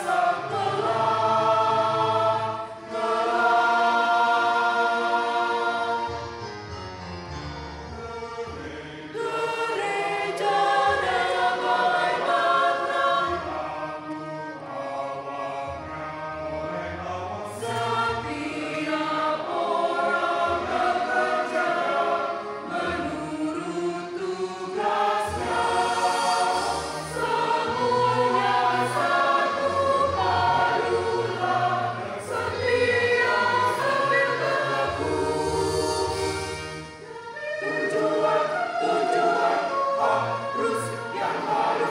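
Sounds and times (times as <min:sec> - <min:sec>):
choir singing a hymn: 0:00.0 - 0:41.9.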